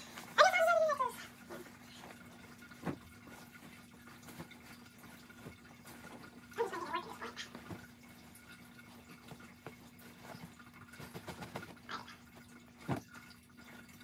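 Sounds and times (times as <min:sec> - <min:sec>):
cloth rustling and flapping: 0:00.0 - 0:14.0
faint steady hum: 0:00.0 - 0:14.0.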